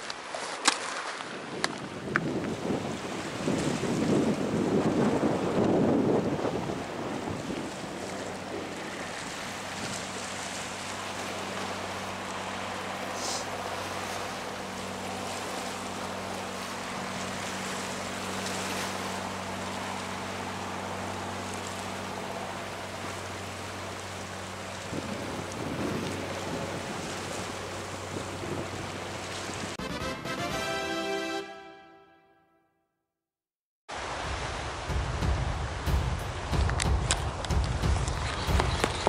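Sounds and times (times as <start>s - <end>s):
wind: 0.0s - 31.4s, 33.9s - 39.0s
waves washing: 0.0s - 32.0s, 33.9s - 39.0s
boat engine running: 2.4s - 31.0s, 34.7s - 39.0s.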